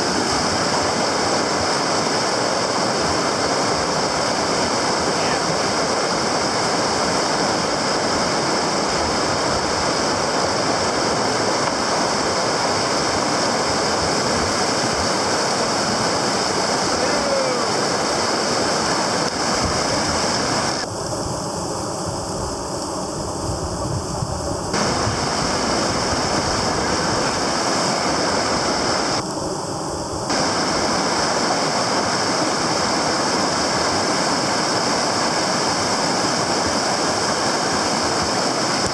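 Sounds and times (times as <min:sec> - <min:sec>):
whitewater river rushing: 0:00.0 - 0:20.9, 0:24.7 - 0:38.9.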